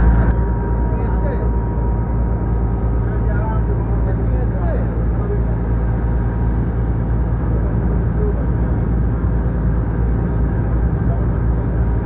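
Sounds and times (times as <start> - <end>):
ferry engine droning: 0.0 - 12.0.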